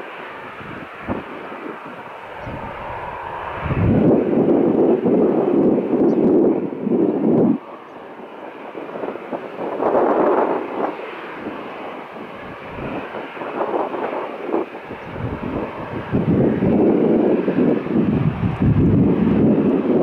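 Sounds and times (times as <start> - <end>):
jet engines taxiing: 0.0 - 20.0
wind buffeting microphone: 0.0 - 20.0.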